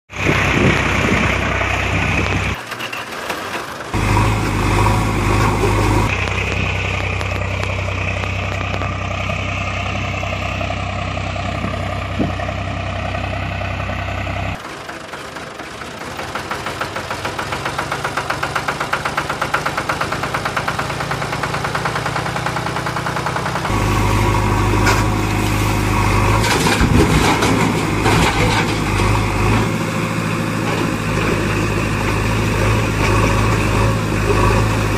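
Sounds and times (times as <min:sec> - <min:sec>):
engine idling: 0:03.6 - 0:34.9.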